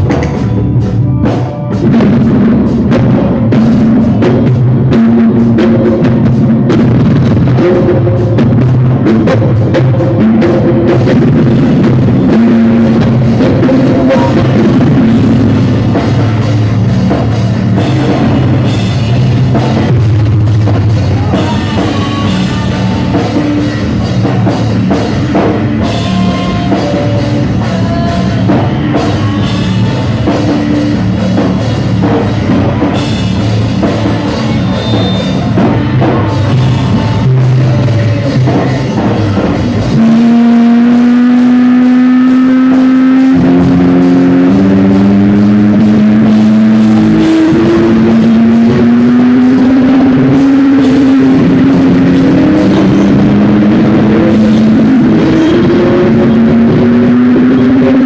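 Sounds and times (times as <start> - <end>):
driving drum kit: 0.0 - 58.0
higher guitar lines: 0.0 - 58.0
loud rock band playing: 0.0 - 58.0.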